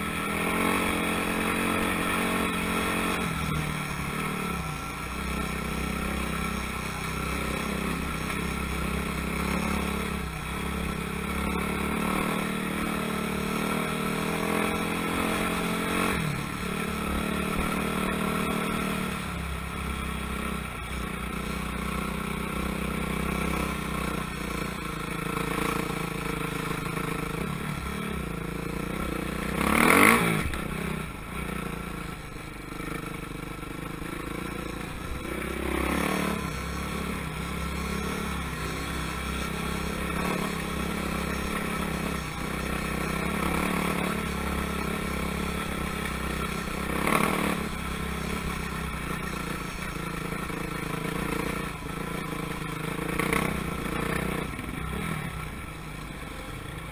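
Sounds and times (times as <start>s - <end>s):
motocross motorcycle engines: 0.0s - 56.9s
motorcycle passing close: 0.0s - 56.9s.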